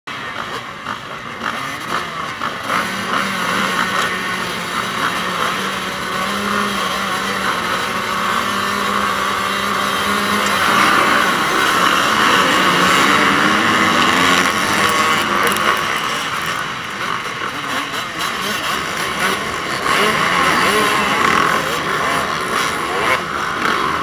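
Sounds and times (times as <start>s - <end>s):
motocross bikes revving: 0.1s - 24.0s.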